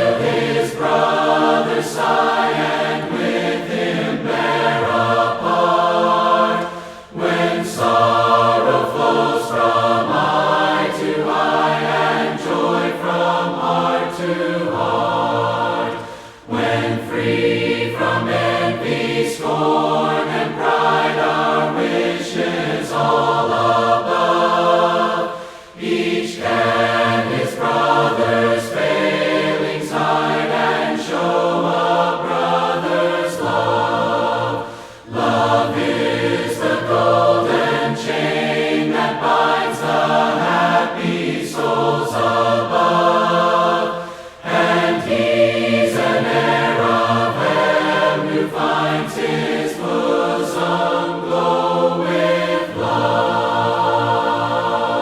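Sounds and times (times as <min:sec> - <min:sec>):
group singing a hymn a cappella: 0:00.0 - 0:55.0.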